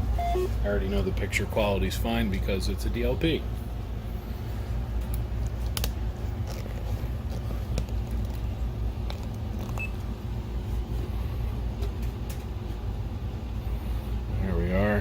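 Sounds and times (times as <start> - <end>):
projector fan humming: 0.0 - 15.0.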